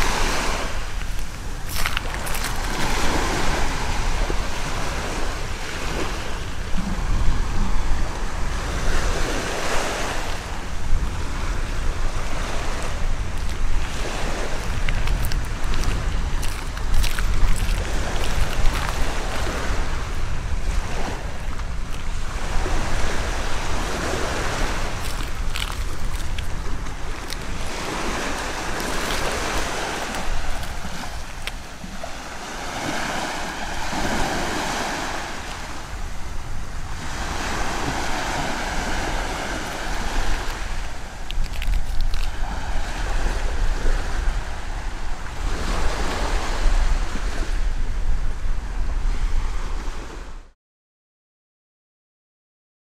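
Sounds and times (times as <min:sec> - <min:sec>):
waves breaking on beach: 0:00.0 - 0:50.5
wind rumbling on microphone: 0:00.0 - 0:50.6.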